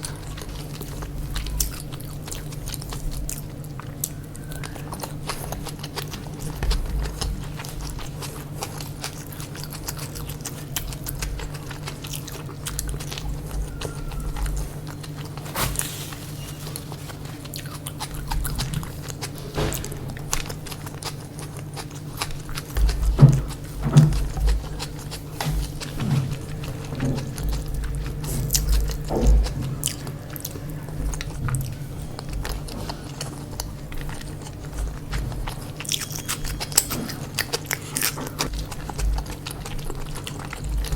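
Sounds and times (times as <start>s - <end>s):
person biting and chewing: 0.0s - 40.9s
steady low hum: 0.0s - 40.9s.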